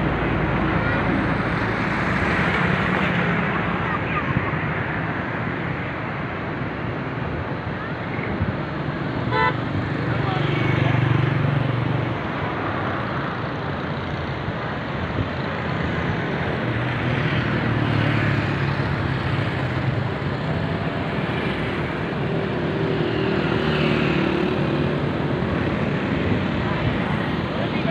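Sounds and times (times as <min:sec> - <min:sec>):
cars passing: 0:00.0 - 0:27.9.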